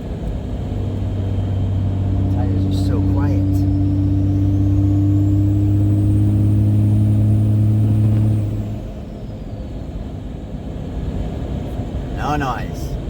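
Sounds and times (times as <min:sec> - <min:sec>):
diesel engine drone: 0:00.0 - 0:13.0
tire road noise: 0:00.0 - 0:13.0.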